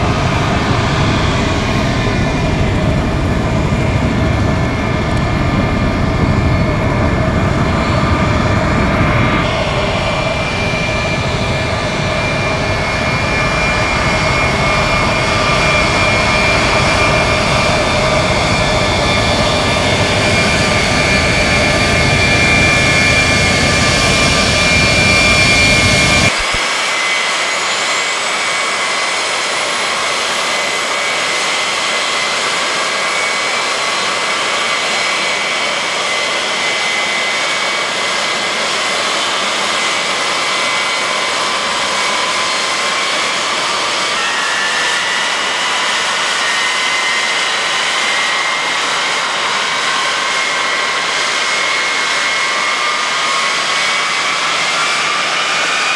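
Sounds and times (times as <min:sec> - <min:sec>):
deep jet engine rumble: 0:00.0 - 0:55.9
high-pitched turbine whine: 0:00.0 - 0:55.9.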